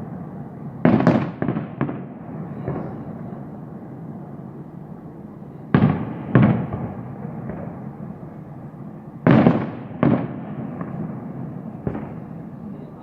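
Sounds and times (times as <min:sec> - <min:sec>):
fireworks bangs: 0:00.0 - 0:04.1, 0:05.6 - 0:13.0.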